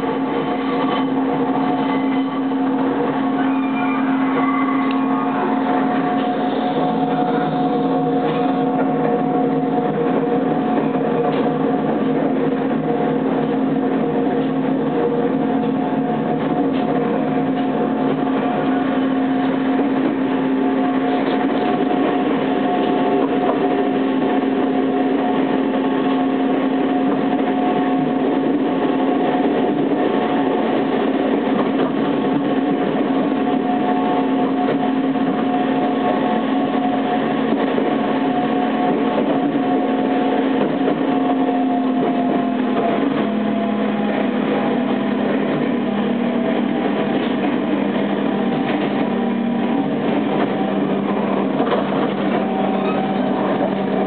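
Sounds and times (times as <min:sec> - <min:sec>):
train motor whine: 0:00.0 - 0:54.0
wheels rushing on rails: 0:00.0 - 0:54.0.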